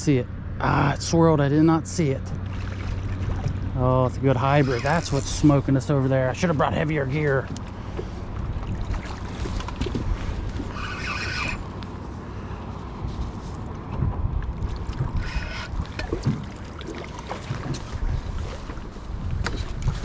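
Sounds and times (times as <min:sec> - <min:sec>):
water against boat: 0:00.6 - 0:20.0
wind buffeting microphone: 0:02.3 - 0:20.0.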